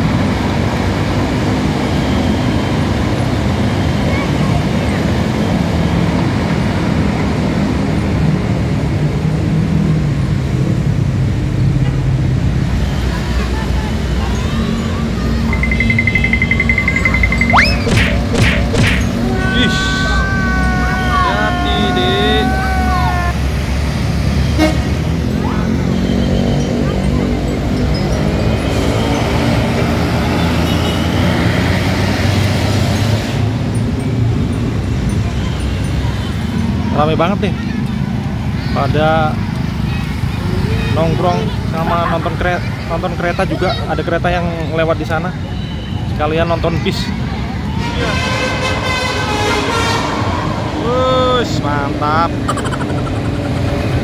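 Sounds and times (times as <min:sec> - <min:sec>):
motorcycles passing: 0:00.0 - 0:44.6, 0:48.7 - 0:54.0
road traffic noise: 0:00.0 - 0:54.0.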